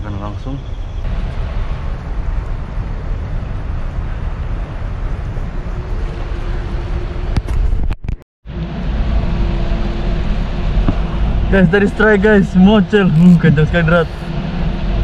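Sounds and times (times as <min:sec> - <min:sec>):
low rumble with hum: 0:00.7 - 0:15.0.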